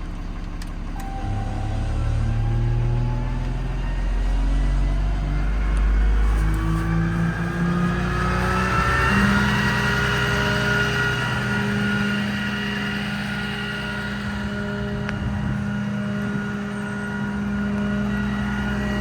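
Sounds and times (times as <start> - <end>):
diesel truck engine accelerating: 0.0 - 19.0.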